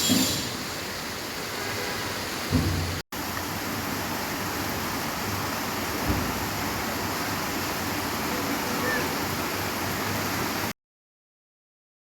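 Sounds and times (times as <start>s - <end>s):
steady rain: 0.6s - 10.8s.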